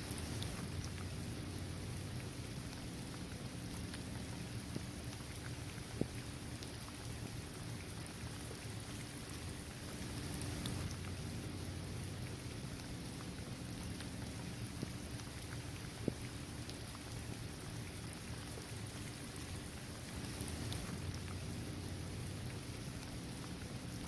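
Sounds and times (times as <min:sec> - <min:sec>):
rain falling on pavement: 0:00.0 - 0:24.0.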